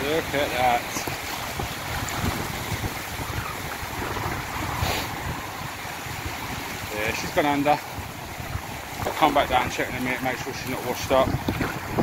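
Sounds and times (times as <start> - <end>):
sea surf washing and fizzing: 0.0 - 12.0
wind buffeting microphone: 0.0 - 12.0.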